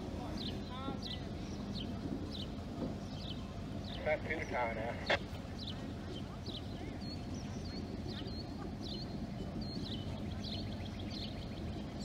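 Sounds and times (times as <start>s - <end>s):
diesel locomotive idling: 0.0s - 12.0s
small birds chirping: 0.2s - 12.0s.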